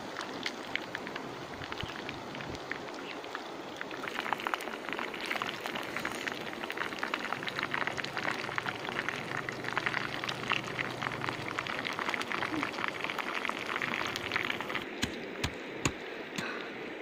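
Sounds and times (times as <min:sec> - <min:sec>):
food frying in hot oil: 0:00.0 - 0:14.9.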